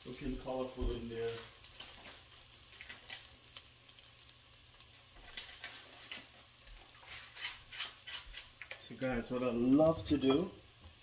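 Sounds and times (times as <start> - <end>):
faint crackles: 0.0 - 11.0
rice sizzling in a pot: 0.0 - 11.0.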